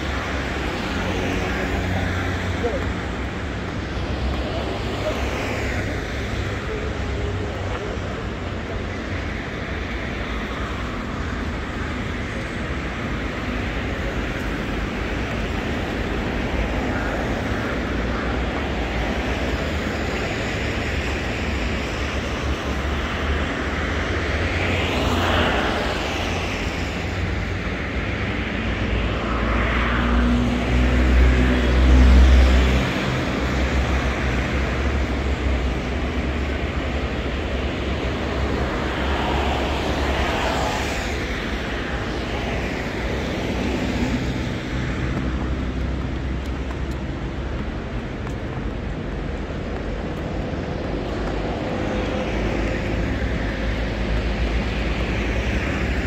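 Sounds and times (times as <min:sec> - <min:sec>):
traffic rumble: 0:00.0 - 0:56.0
vehicles passing: 0:00.0 - 0:56.0.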